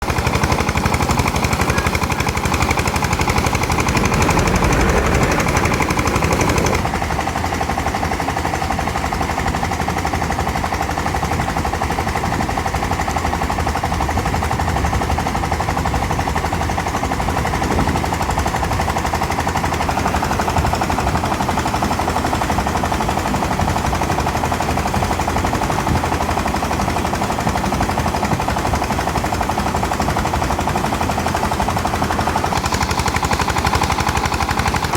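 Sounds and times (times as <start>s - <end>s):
pump engine running: 0.0s - 34.9s.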